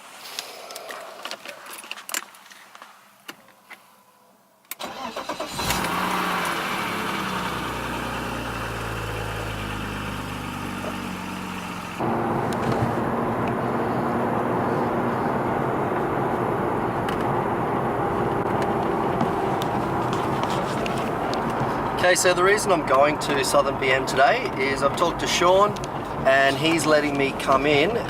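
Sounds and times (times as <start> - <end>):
car engine cranking and idling: 4.7 - 28.0.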